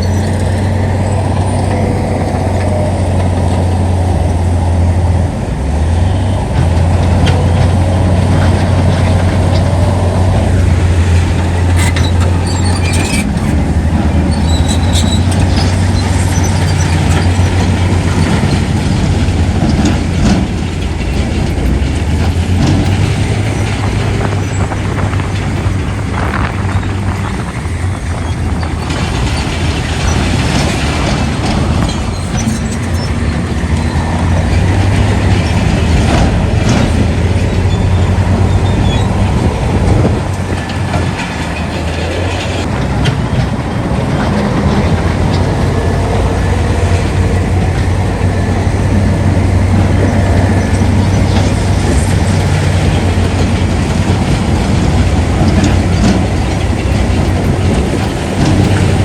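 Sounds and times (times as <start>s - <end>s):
diesel machinery engines running: 0.0s - 59.0s
metallic clanking and rattling: 6.1s - 59.0s.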